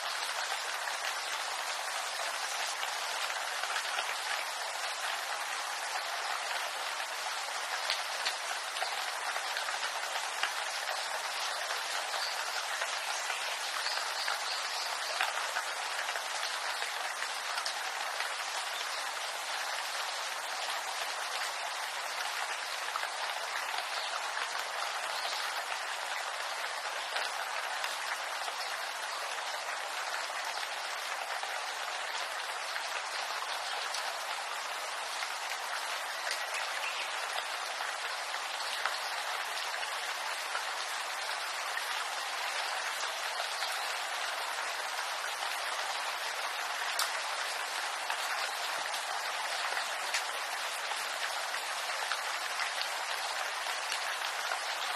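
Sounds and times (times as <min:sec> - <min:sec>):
rain on bamboo leaves: 0:00.0 - 0:54.9.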